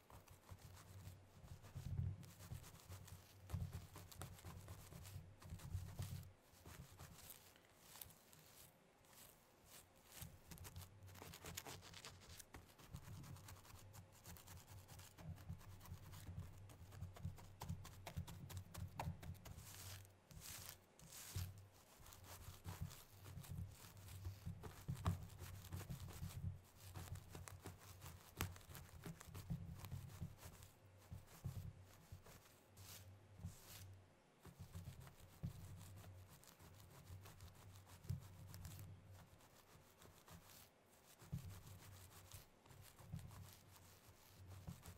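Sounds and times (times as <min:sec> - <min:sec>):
nails scratching through hair: 0:00.0 - 0:44.9.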